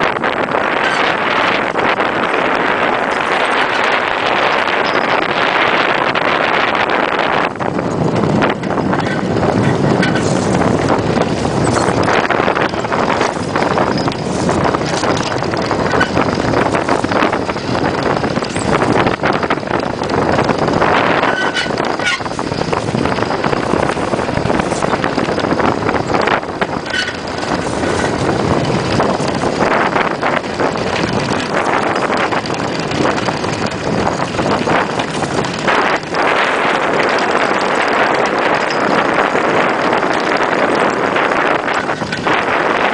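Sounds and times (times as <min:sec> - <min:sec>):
iceboat runners scraping ice: 0:00.0 - 0:42.9
wind buffeting microphone: 0:00.0 - 0:42.9.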